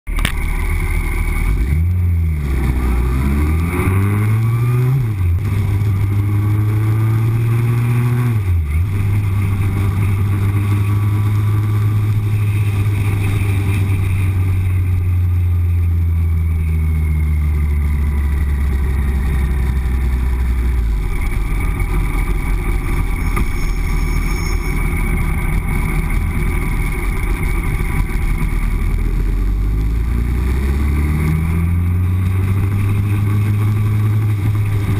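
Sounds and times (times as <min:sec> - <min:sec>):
motorcycle engine shifting gears: 0:00.1 - 0:34.9.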